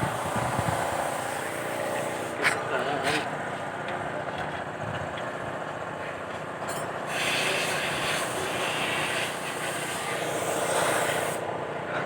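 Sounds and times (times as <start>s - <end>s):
mechanical hum: 0.0s - 5.6s, 6.7s - 12.0s.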